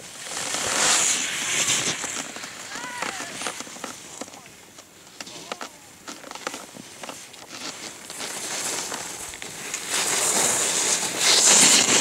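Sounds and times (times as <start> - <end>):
skis scraping over snow: 0.0 - 12.0
small clicks and crackles: 0.0 - 12.0.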